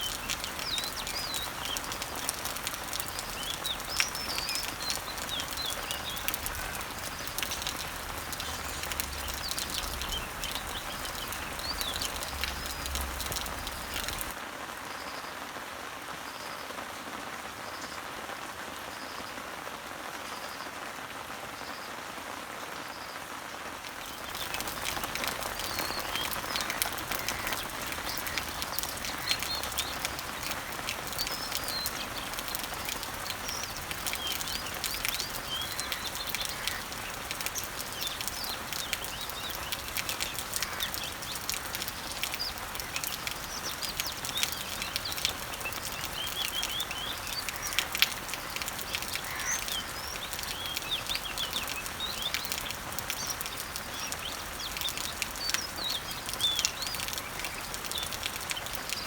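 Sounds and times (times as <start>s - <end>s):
birds chirping: 0.0s - 14.4s, 23.9s - 59.0s
sharp water drips: 0.0s - 14.4s, 23.8s - 59.0s
rain pattering on leaves: 0.0s - 59.0s.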